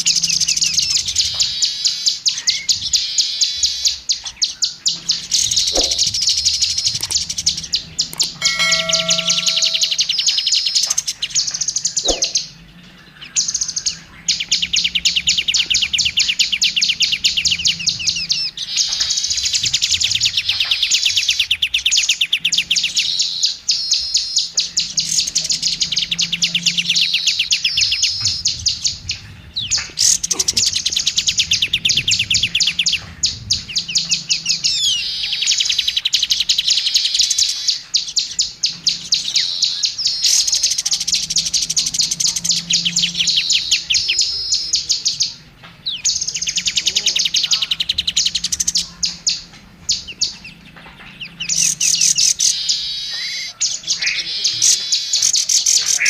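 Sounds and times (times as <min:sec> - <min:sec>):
magpie-robin singing rapid rattling song: 0:00.0 - 0:56.0.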